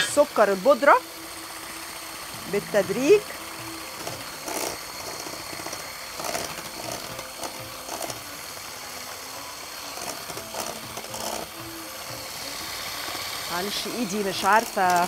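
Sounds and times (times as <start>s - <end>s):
electric hand mixer whisking: 0.0s - 15.0s.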